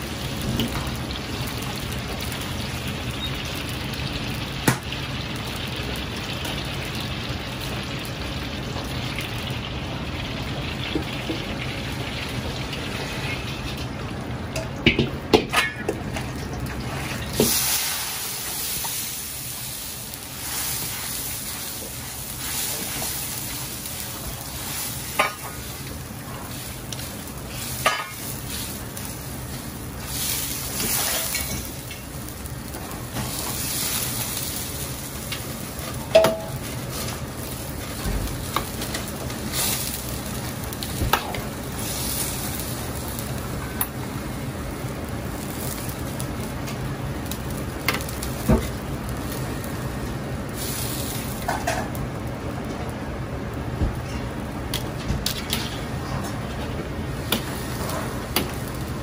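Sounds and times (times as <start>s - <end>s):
gas burner flame rushing: 11.7s - 59.0s.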